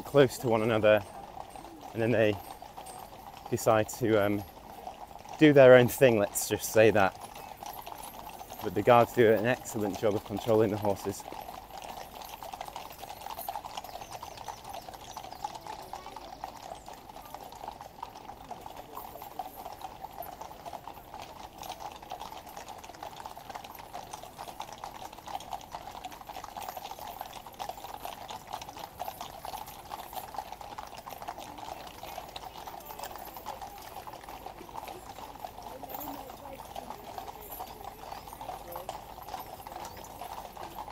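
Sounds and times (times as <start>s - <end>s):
horse hooves clip-clopping on road: 0.0s - 40.9s.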